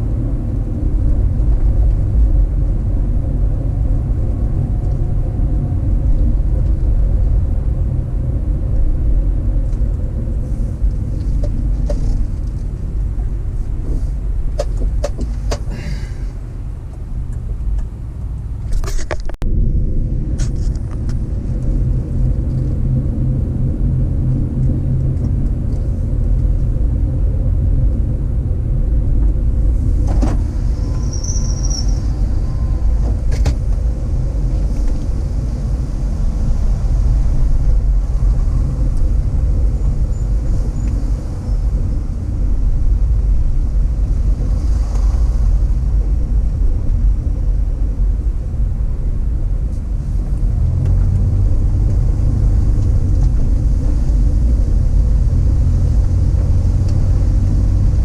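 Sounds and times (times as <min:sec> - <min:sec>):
car engine rumble: 0:00.0 - 0:58.0
road noise: 0:00.0 - 0:58.0.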